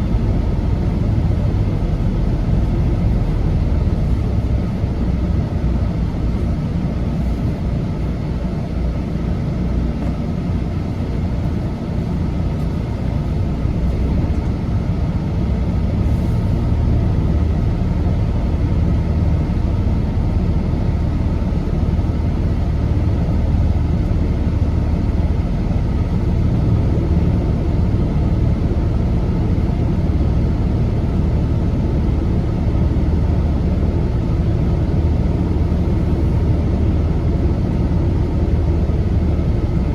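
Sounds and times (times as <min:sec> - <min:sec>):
diesel truck engine drone: 0:00.0 - 0:39.9
road noise: 0:00.0 - 0:39.9.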